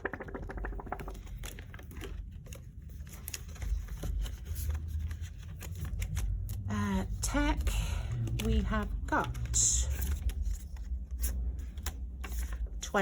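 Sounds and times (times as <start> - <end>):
paper rustling: 0.1 - 6.6, 8.2 - 12.8.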